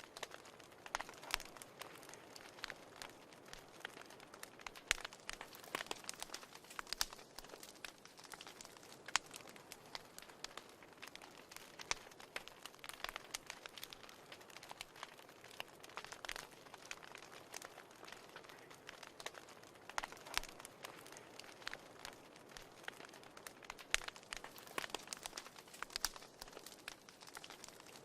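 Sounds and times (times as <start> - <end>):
fire crackling in fireplace: 0.0 - 28.0.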